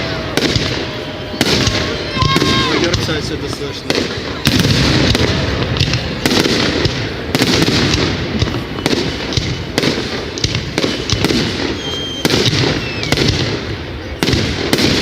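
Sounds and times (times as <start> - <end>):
fireworks bangs: 0.0 - 15.0
fireworks crackling: 0.0 - 15.0
rumble of explosions: 0.0 - 15.0.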